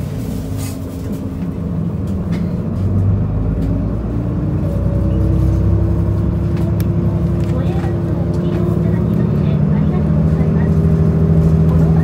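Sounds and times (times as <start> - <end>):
bus engine and road drone: 0.0 - 12.0.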